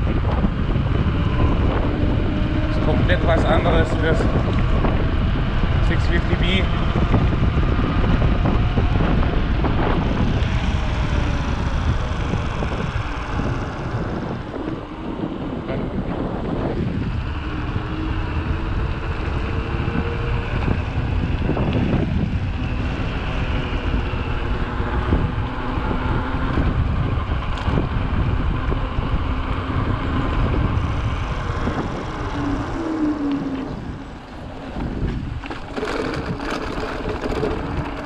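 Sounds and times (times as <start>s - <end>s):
mountain bike rolling rumble: 0.0s - 38.0s
wind rushing over microphone: 0.0s - 38.0s.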